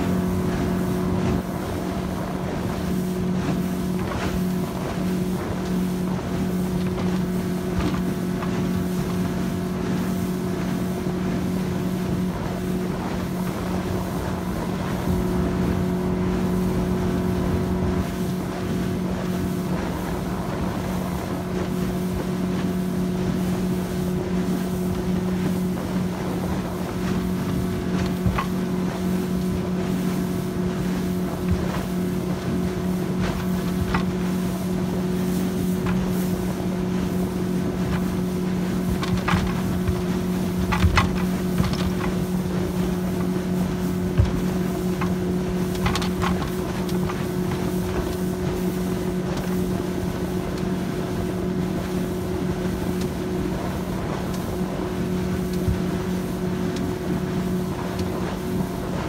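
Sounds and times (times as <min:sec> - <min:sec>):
outboard motor humming: 0:00.0 - 0:59.0
wind buffeting microphone: 0:00.0 - 0:59.0.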